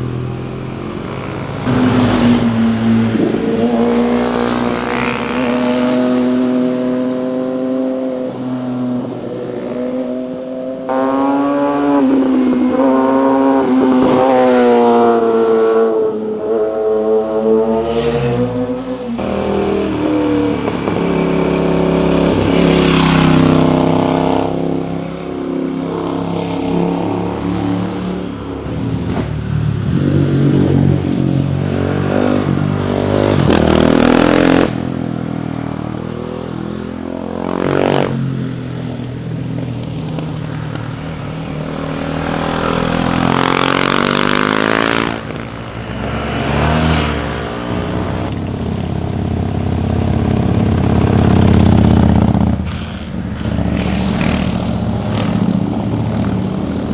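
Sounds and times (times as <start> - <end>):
motorcycles accelerating past: 0.0 - 56.9.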